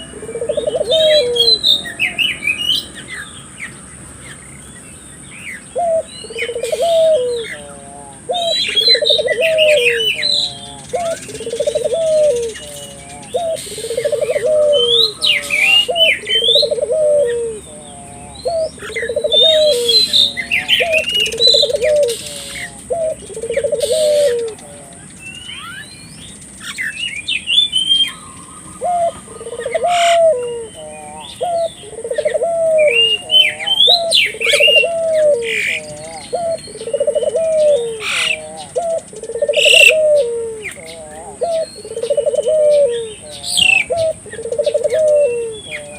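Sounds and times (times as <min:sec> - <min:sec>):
dove cooing: 0:00.0 - 0:03.3, 0:05.6 - 0:25.7, 0:27.8 - 0:45.9
small birds chirping: 0:00.0 - 0:45.9.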